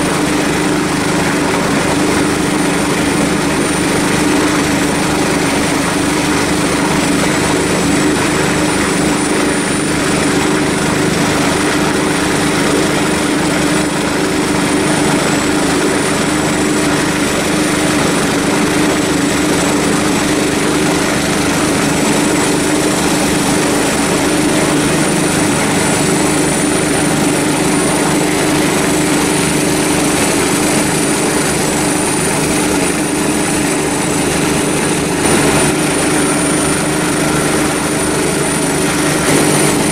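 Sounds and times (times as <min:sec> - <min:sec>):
helicopter rotor blades beating: 0:00.0 - 0:39.9
helicopter turbine whine: 0:00.0 - 0:39.9.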